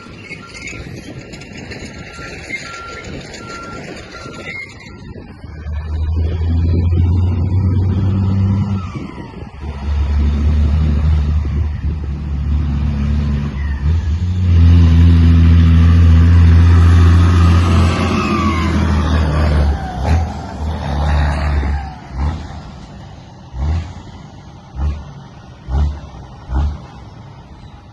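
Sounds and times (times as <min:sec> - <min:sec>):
heavy truck engine running: 0:00.0 - 0:27.9.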